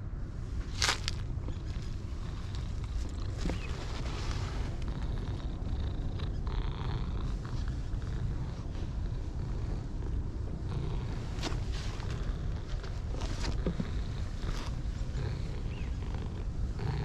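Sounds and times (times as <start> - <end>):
cat purring: 1.2 - 17.0.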